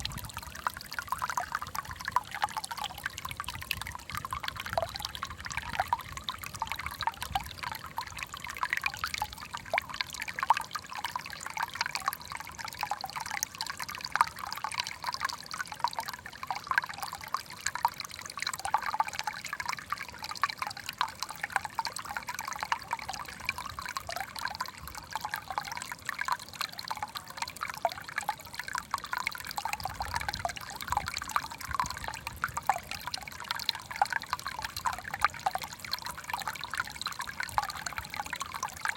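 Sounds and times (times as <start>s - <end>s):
water trickling in tank: 0.0s - 38.9s.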